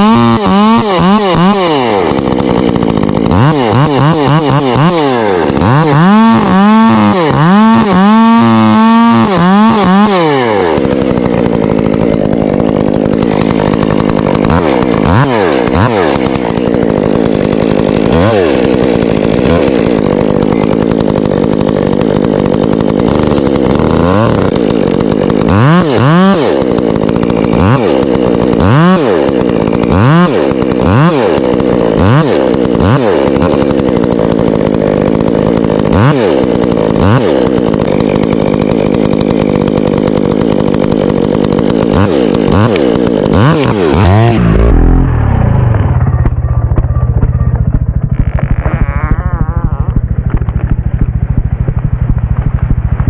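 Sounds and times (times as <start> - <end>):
chainsaw cutting at high revs: 0.0 - 53.0.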